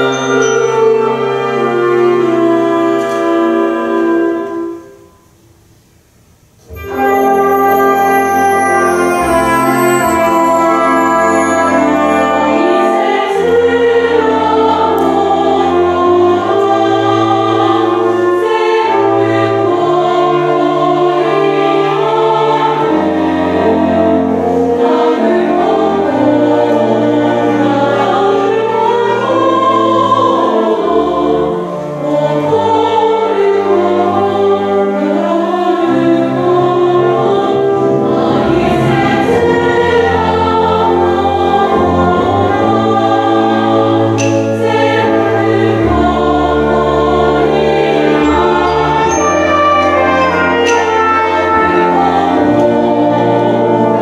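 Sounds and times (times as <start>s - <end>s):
wind band playing: 0.0s - 5.4s, 6.6s - 54.0s
female choir singing: 6.7s - 54.0s.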